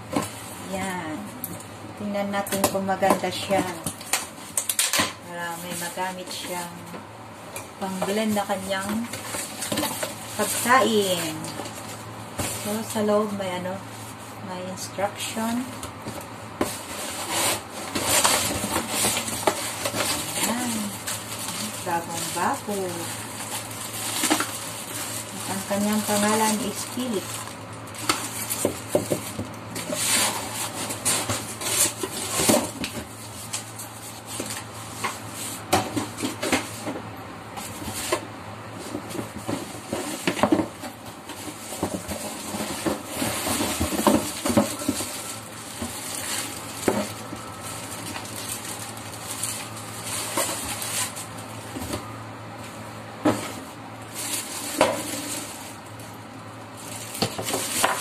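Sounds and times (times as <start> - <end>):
plastic bags crinkling: 7.8 - 37.0, 37.6 - 58.0.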